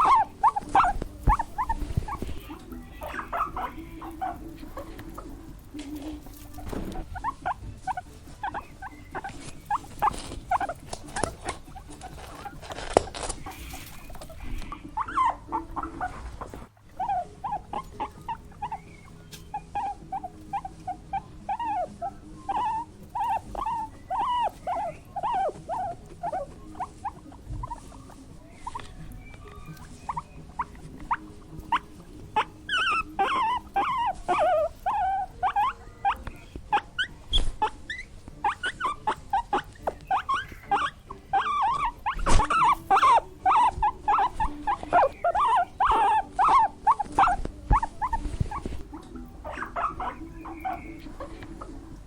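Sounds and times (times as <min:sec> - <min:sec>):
small animals squeaking: 0:00.0 - 0:52.0.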